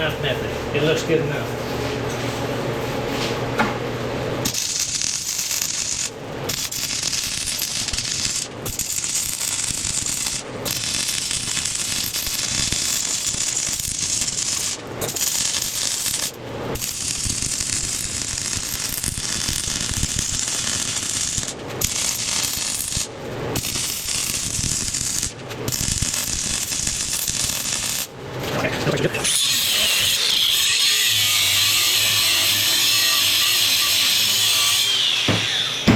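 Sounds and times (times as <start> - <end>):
welder crackling: 4.4 - 35.9.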